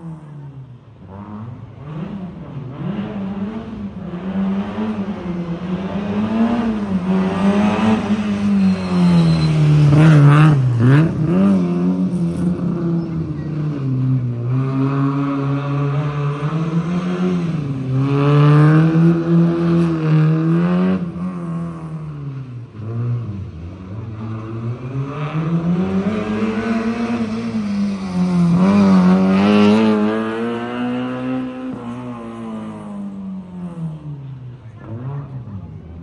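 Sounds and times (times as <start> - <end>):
rally car engine accelerating: 1.0 - 36.0.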